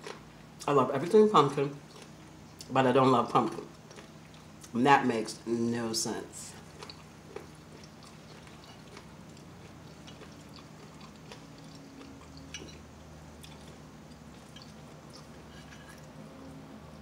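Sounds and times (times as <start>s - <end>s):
person chewing soft food: 0.0s - 0.7s, 1.4s - 4.8s, 6.5s - 17.0s
faint low hum: 0.0s - 17.0s.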